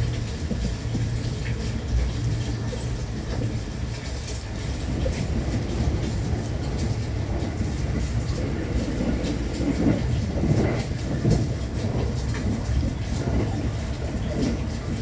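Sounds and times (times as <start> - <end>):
train knocks and clatter: 0.0 - 15.0
train wheels rumbling: 0.0 - 15.0.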